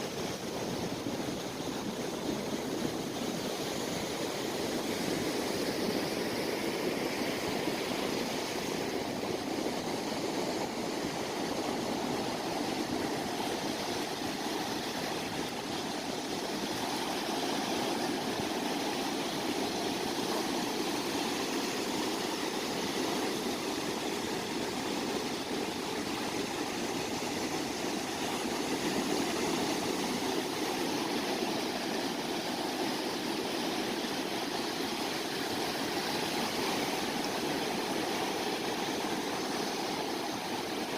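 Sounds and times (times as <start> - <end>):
sea surf washing ashore: 0.0 - 40.9.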